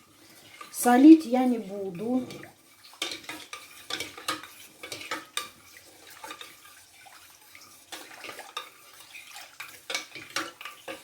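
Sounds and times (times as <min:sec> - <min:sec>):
liquid stirring wet sound: 0:00.0 - 0:11.0.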